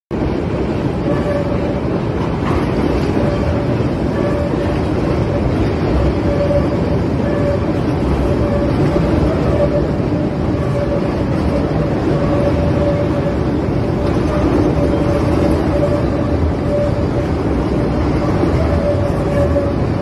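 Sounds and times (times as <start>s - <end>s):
elevated train rumbling: 0.1s - 20.0s.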